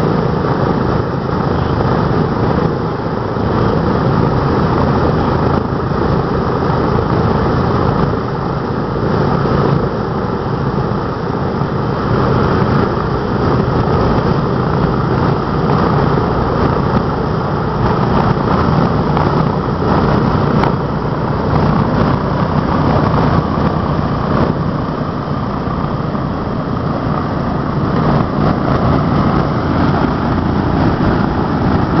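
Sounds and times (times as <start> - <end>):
propeller aircraft engines droning: 0.0 - 32.0.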